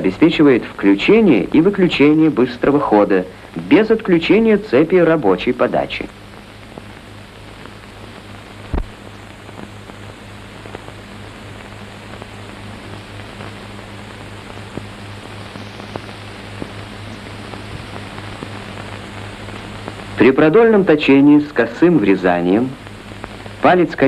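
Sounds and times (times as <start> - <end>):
crackles and pops: 0.0 - 24.0
film soundtrack hiss and hum: 0.0 - 24.0.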